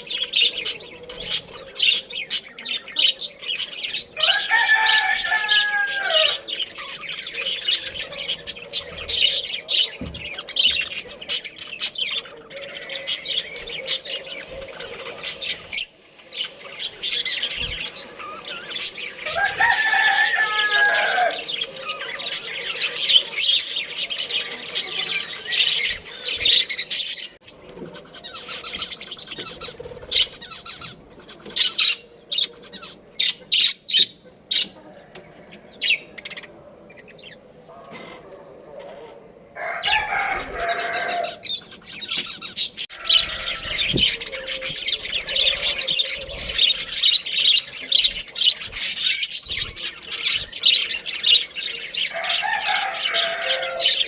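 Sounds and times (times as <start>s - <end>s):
budgerigars chattering: 0.0s - 34.8s, 35.6s - 54.0s.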